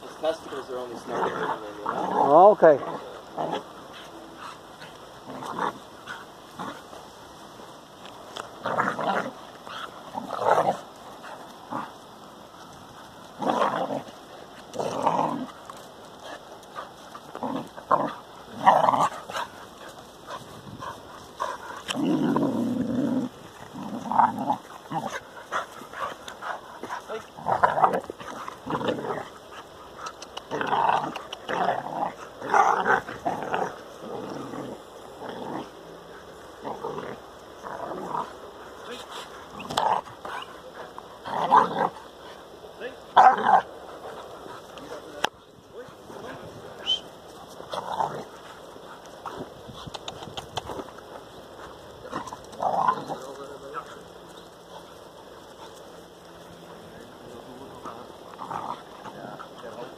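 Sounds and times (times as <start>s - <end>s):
dogs growling while play-fighting: 0.0s - 59.9s.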